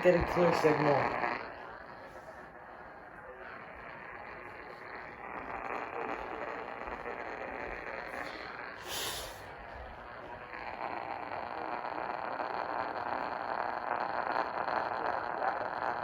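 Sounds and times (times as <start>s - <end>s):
faint high whine: 0.0s - 16.0s
radio crackle: 0.0s - 16.0s
radio static and hiss: 0.0s - 16.0s.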